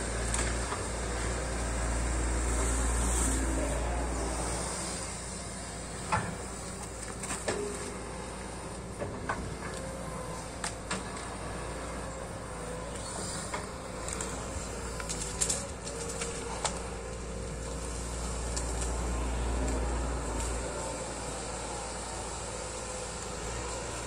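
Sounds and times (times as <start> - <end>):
excavator diesel engine: 0.0 - 24.0.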